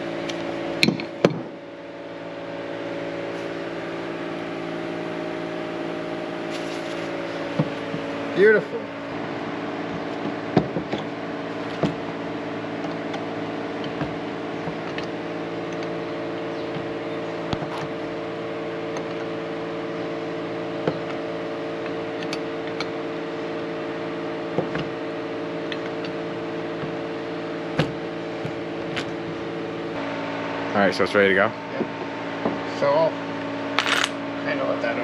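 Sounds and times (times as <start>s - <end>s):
machine hum: 0.0s - 35.0s.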